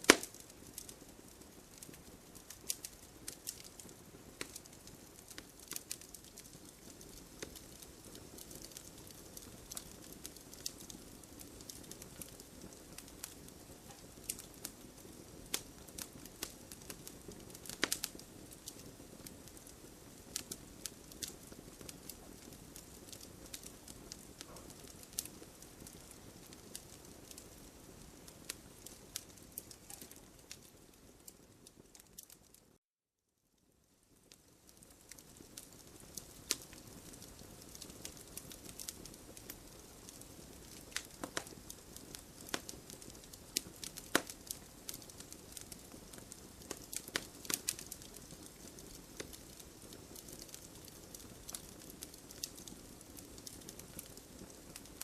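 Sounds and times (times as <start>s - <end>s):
campfire crackling and popping: 0.0s - 32.7s, 34.1s - 55.0s.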